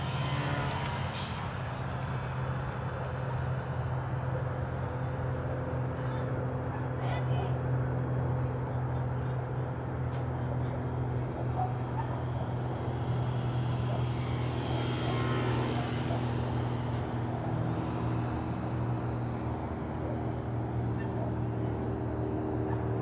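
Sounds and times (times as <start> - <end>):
aircraft flying low past: 0.0 - 23.0
steady low hum: 0.0 - 23.0.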